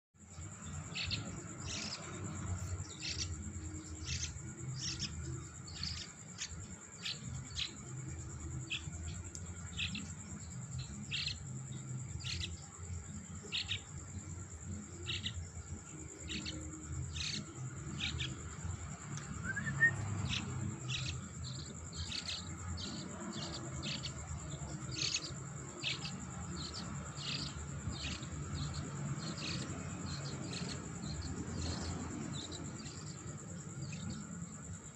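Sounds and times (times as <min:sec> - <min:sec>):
bird chick chirping: 0:00.5 - 0:07.8, 0:08.5 - 0:12.6, 0:13.5 - 0:13.9, 0:16.2 - 0:34.4.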